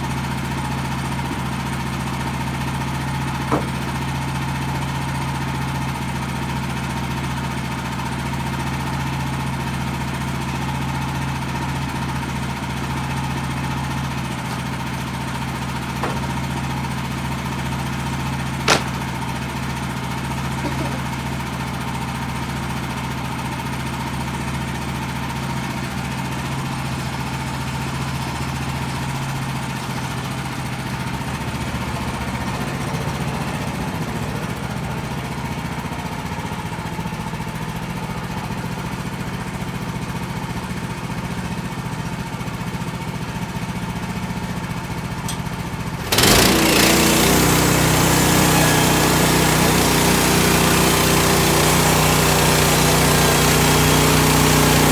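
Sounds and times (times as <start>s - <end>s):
sawmill gas engine running: 0.0s - 54.9s.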